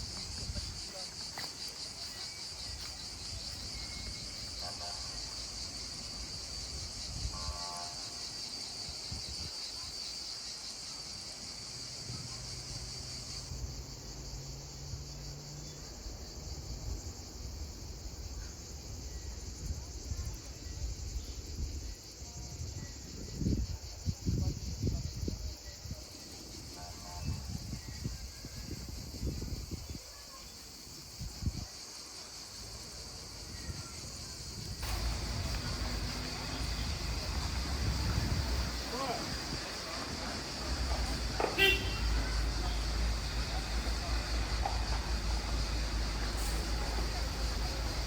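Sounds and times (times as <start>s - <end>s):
insects buzzing: 0.0s - 48.0s.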